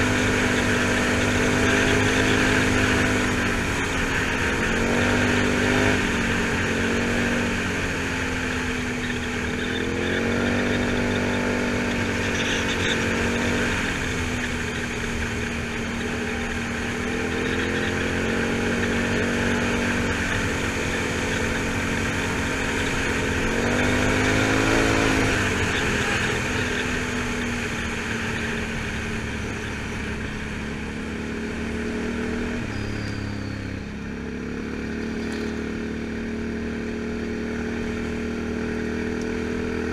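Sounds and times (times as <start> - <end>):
atv engine revving: 0.0 - 39.9
road and wind noise: 0.0 - 39.9.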